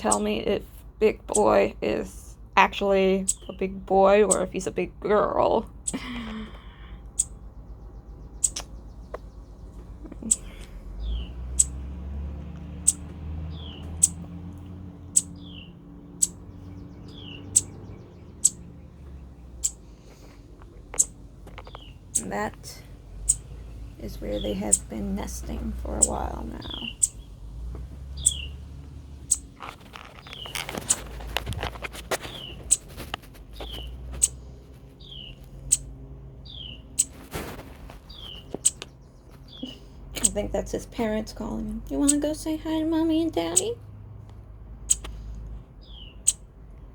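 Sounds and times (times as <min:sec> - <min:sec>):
small songbird chirping: 0:00.0 - 0:43.8, 0:44.8 - 0:46.9.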